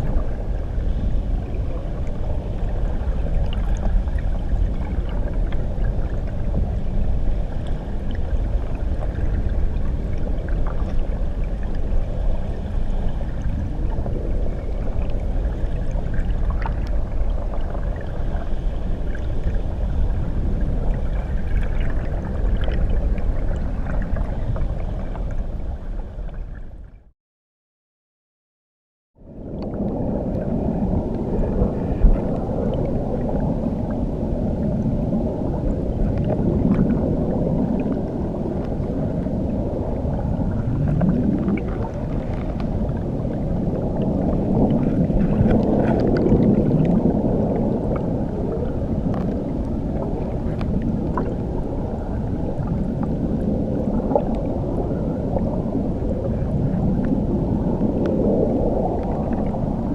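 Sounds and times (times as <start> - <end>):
muffled underwater waterfall rumble: 0.0 - 27.1, 29.2 - 59.9.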